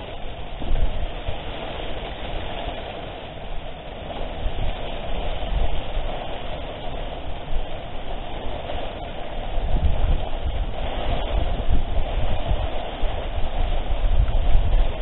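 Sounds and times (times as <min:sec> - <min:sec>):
rain: 0:00.0 - 0:15.0
wind gusting on microphone: 0:00.0 - 0:15.0.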